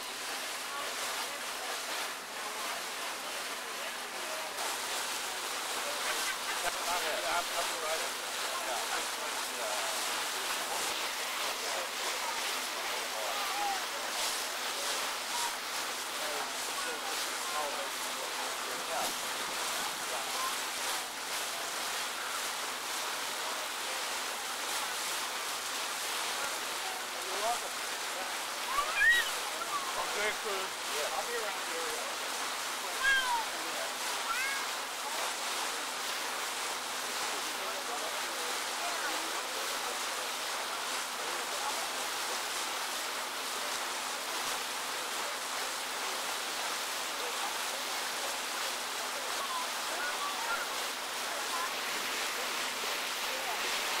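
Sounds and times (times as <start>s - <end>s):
water rushing around boat: 0.0s - 54.0s.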